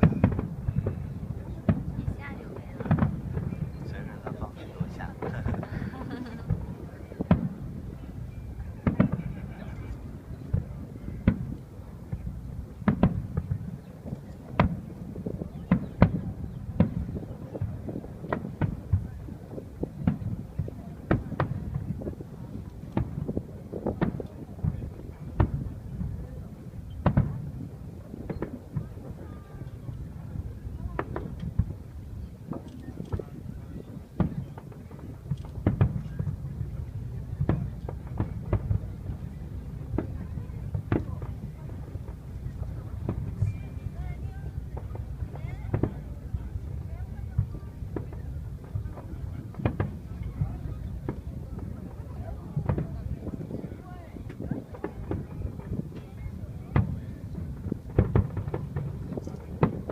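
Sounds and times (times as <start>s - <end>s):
fireworks banging: 0.0s - 59.9s.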